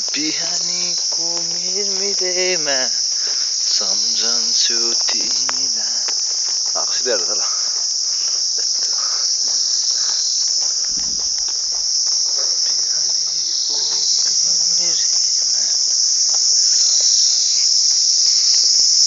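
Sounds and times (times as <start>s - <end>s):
insects shrilling: 0.0s - 19.0s.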